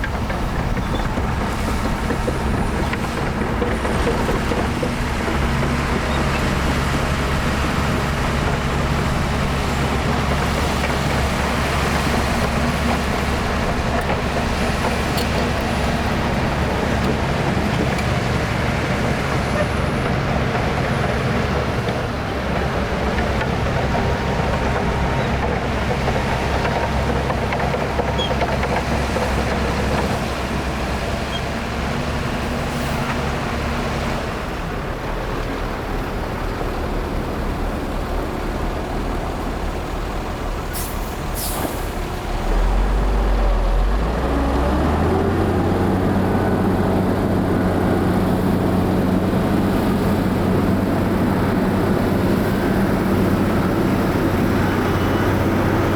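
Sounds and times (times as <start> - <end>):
diesel machinery engine under load: 0.0 - 55.9.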